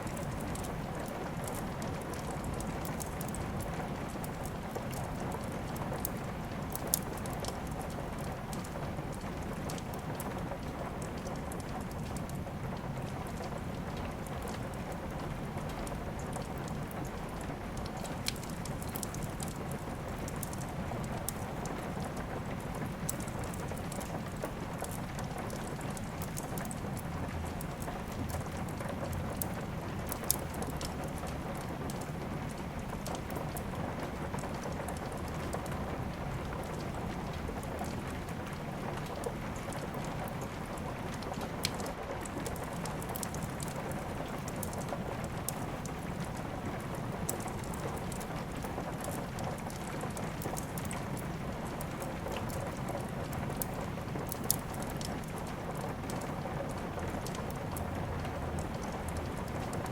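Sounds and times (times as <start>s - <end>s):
steady rain falling: 0.0s - 59.9s
wood fire crackling: 0.1s - 59.9s.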